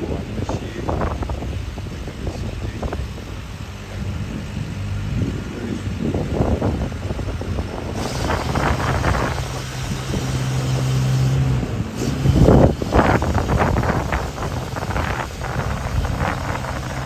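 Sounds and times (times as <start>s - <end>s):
lorry diesel engines droning: 0.0s - 17.0s.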